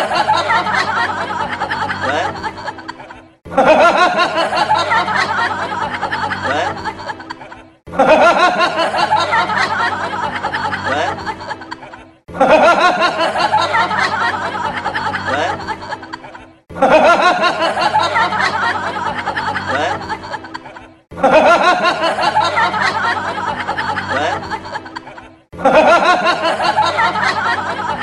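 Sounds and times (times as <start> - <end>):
snickering laughter: 0.0 - 28.0.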